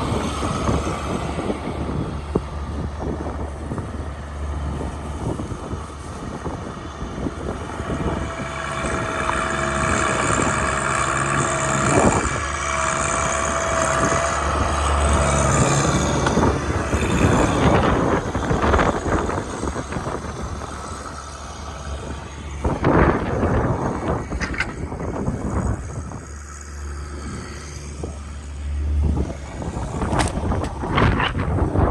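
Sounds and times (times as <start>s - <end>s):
large vehicle engine running: 0.0s - 31.9s
street noise: 0.0s - 31.9s.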